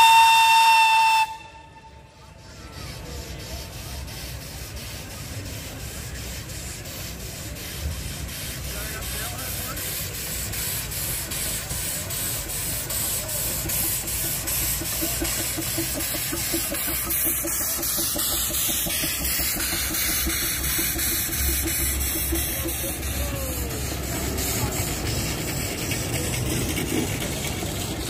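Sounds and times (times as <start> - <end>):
rhythmic locomotive beat: 0.0 - 28.0
steam hissing: 0.0 - 28.0.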